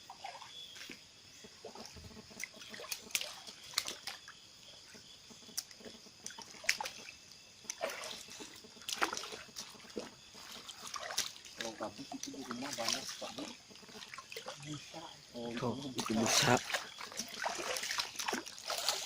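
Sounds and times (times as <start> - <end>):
river water splashing: 0.0 - 1.0, 1.6 - 19.0
insects chirring: 0.0 - 19.0.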